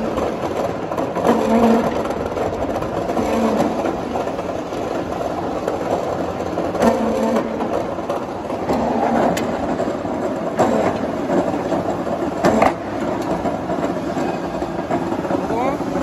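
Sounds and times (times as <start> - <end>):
wire-pointing machine rumble and clatter: 0.0 - 16.0.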